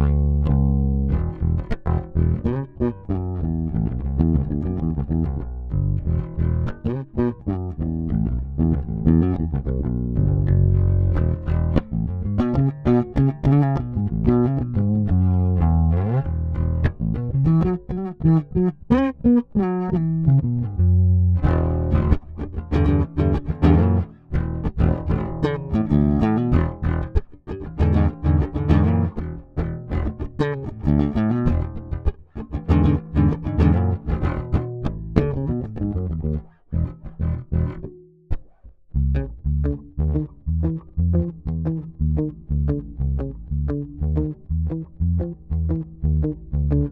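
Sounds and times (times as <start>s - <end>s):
electric bass plucked notes: 0.0s - 46.9s.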